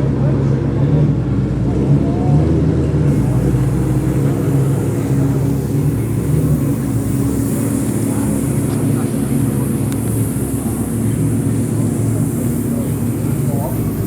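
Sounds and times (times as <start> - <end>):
car engine rumbling at low revs: 0.2 - 14.0.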